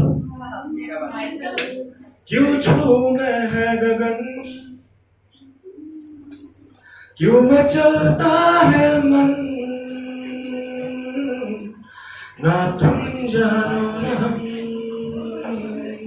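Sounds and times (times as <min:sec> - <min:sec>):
young man singing unaccompanied: 0:02.2 - 0:04.8, 0:05.4 - 0:16.0.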